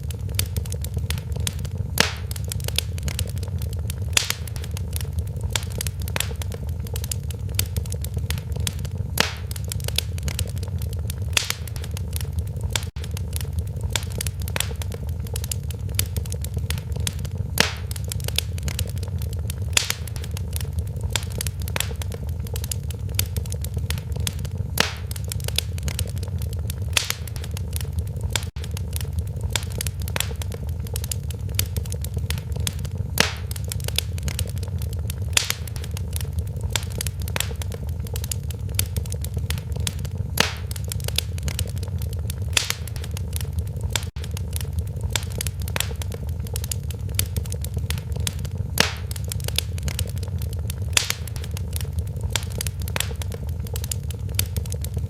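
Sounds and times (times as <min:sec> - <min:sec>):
fire low rumble: 0:00.0 - 0:55.0
wood fire crackling and popping: 0:00.0 - 0:55.0.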